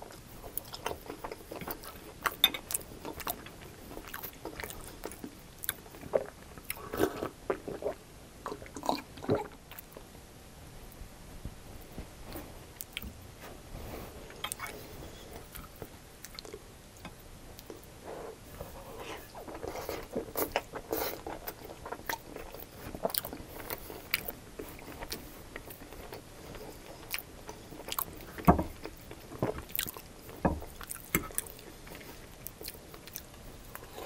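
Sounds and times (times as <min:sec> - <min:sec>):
person chewing: 0:00.1 - 0:10.0, 0:14.3 - 0:16.6, 0:18.6 - 0:34.0.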